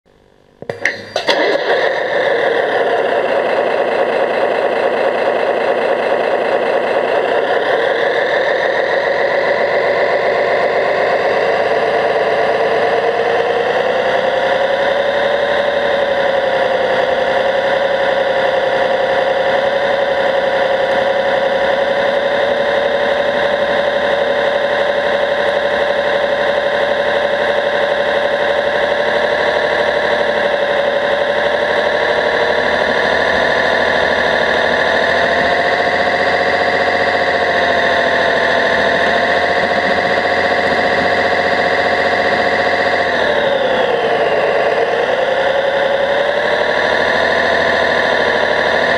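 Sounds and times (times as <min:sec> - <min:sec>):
model bulldozer mechanical whine: 0:00.2 - 0:48.9.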